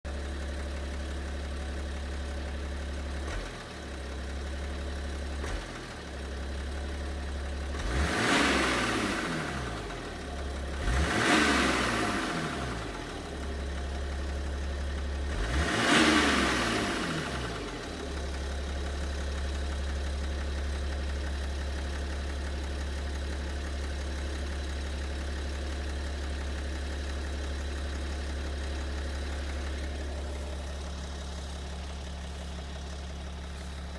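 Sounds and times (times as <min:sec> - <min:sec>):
diesel engine idling and revving: 0:00.0 - 0:33.9
engine knocking: 0:00.1 - 0:33.9.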